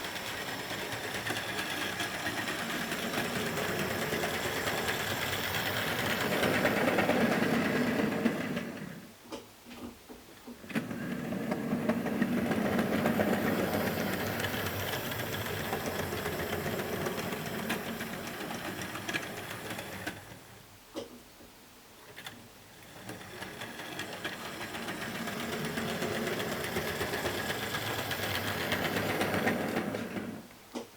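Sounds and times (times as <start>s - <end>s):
model train motor whirring: 0.0s - 8.6s, 10.8s - 20.3s, 22.2s - 30.4s
wheels rattling over rails: 0.0s - 9.0s, 10.7s - 20.4s, 22.1s - 30.5s.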